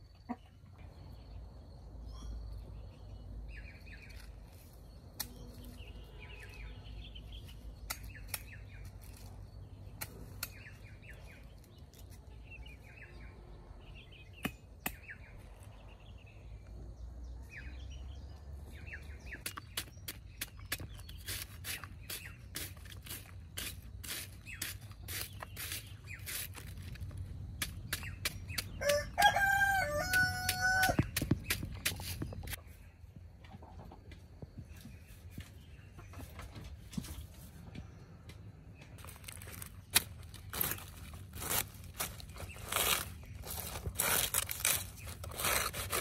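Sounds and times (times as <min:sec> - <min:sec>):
birds chirping: 0:00.1 - 0:46.0.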